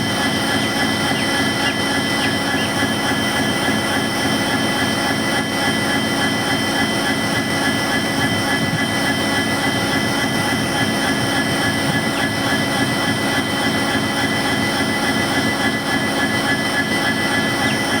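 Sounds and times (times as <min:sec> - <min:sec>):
diesel locomotive engine running: 0:00.0 - 0:18.0
turbocharger whine: 0:00.0 - 0:18.0.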